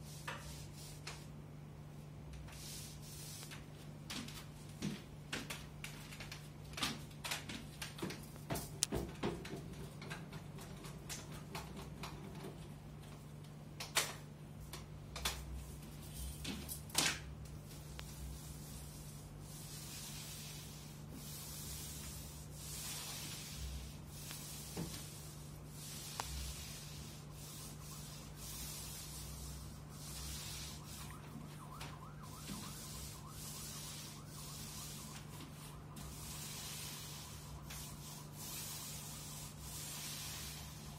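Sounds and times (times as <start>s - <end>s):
paint roller swishing on wall: 0.0s - 1.4s, 2.3s - 40.9s.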